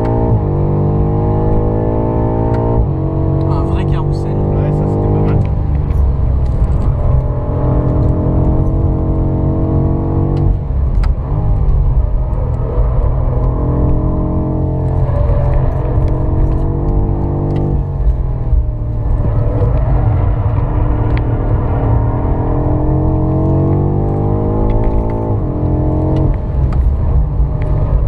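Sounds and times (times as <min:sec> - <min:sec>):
car engine pulling hard: 0:00.0 - 0:28.0
road and tyre noise: 0:00.0 - 0:28.0.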